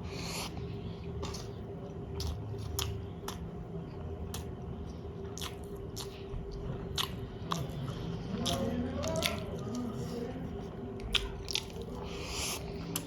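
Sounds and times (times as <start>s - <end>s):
person chewing with wet smacking: 0.0s - 13.0s.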